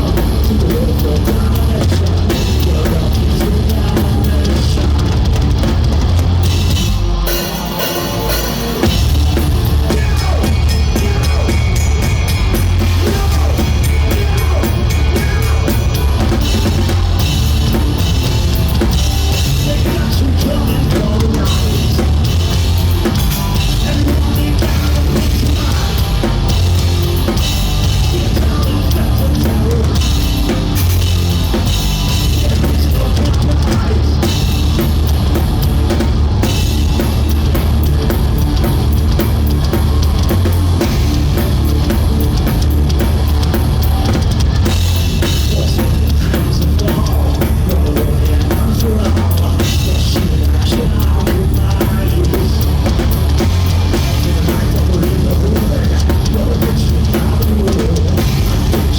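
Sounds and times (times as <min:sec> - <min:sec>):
heavy bass drum: 0:00.0 - 0:58.9
live rock band playing: 0:00.0 - 0:58.9.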